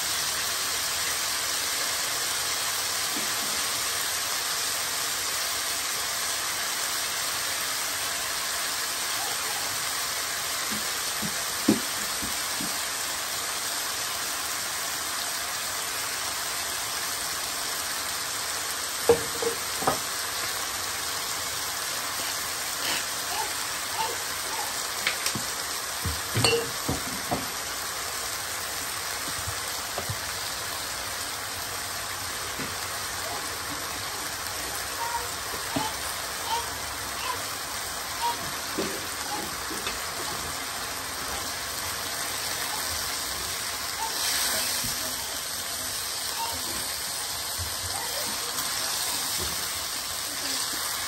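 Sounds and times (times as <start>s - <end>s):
meat sizzling in a pan: 0.0s - 51.0s.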